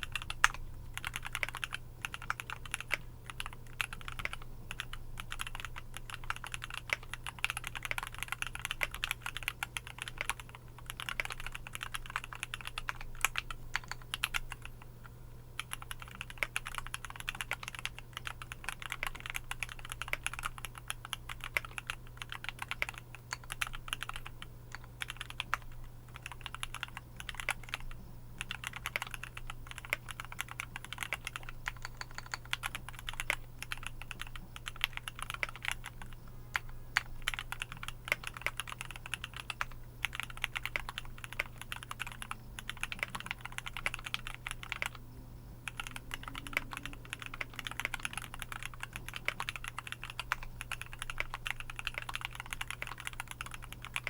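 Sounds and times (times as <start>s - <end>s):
mechanical keyboard typing: 0.0s - 14.8s, 15.6s - 45.0s, 45.6s - 54.0s.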